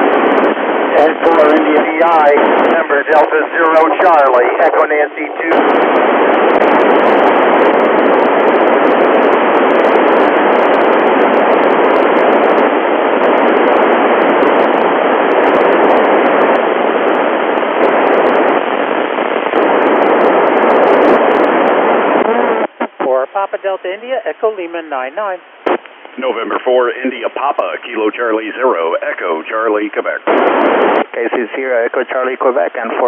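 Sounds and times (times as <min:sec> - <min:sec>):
radio receiver hiss: 0:00.0 - 0:33.0.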